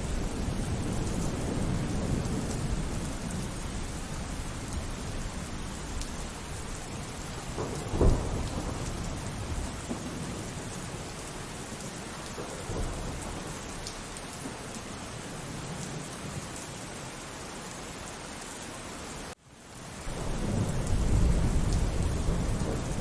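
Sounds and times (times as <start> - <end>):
thunder rumbling: 0.0 - 16.4, 20.0 - 23.0
steady rainfall: 0.0 - 23.0.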